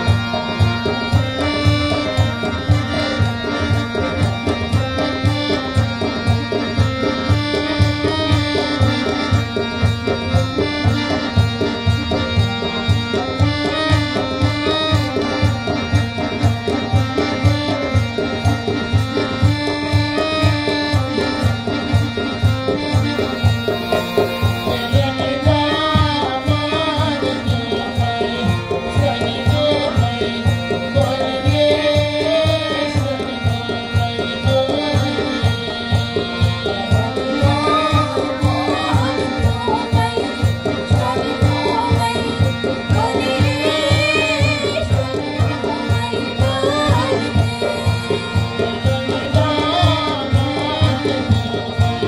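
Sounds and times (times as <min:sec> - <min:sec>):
reedy wind instrument melody: 0:00.0 - 0:52.0
steady drum beat: 0:00.0 - 0:52.0.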